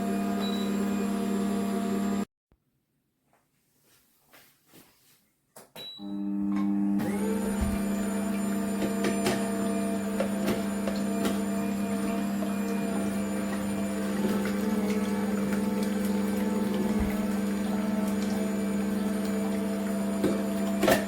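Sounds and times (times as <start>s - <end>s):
juicer motor humming: 0.0s - 2.3s, 6.0s - 21.0s.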